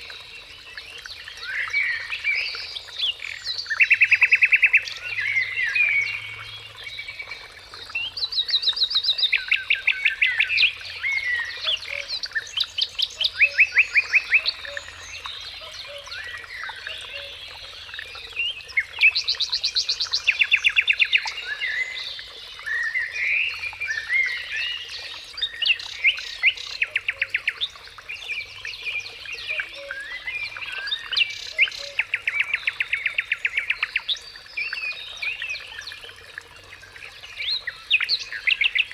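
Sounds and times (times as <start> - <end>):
bird chirps and warbles: 0.0 - 38.9
songbirds trilling: 0.0 - 38.9.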